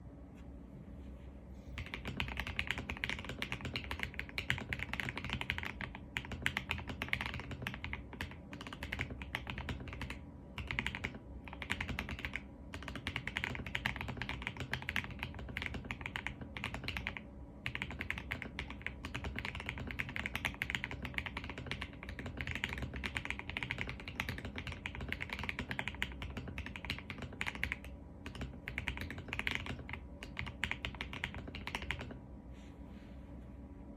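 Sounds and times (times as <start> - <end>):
mechanical keyboard typing: 1.8 - 32.2.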